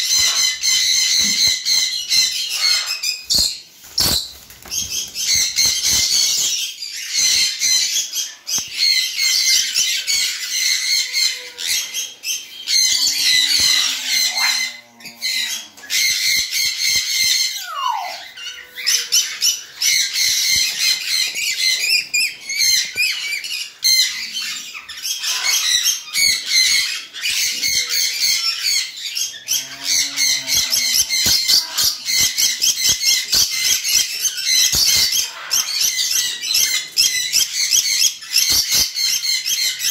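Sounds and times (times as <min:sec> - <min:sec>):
parrots screeching and chattering: 0:00.0 - 0:39.9.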